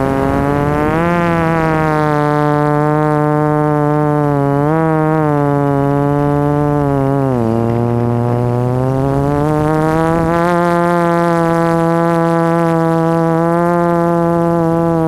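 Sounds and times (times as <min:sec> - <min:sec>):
drone motors buzzing whine: 0:00.0 - 0:15.0.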